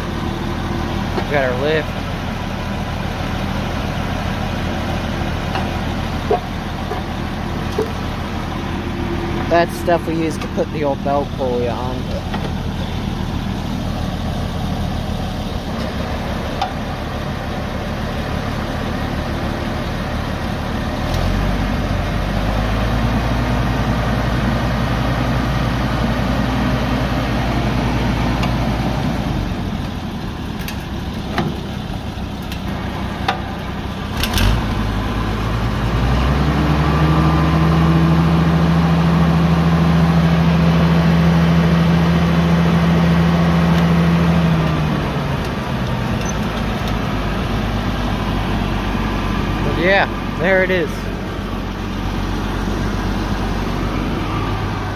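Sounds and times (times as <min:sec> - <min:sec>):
tractor engine idling: 0:00.0 - 0:54.9.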